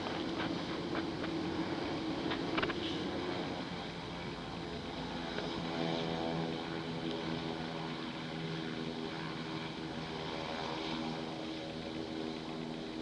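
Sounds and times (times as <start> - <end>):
turboprop plane propeller drone: 0.0 - 13.0.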